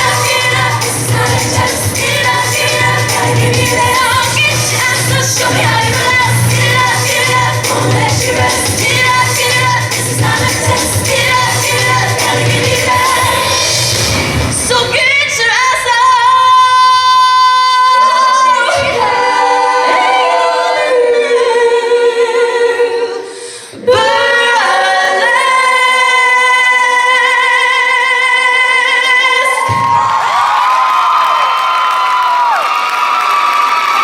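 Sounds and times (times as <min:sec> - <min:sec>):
women singing a cappella: 0:00.0 - 0:13.9, 0:14.6 - 0:29.8.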